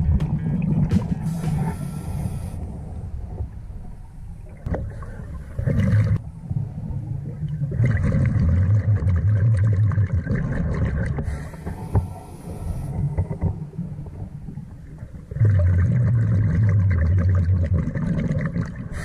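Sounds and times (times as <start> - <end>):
regulator bubbles underwater: 0.0 - 19.0.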